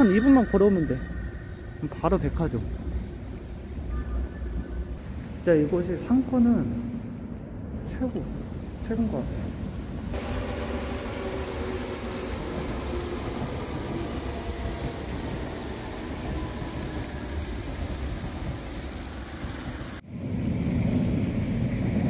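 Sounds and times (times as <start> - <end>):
faint train whine: 0.0 - 22.0
train rumbling: 0.0 - 22.0.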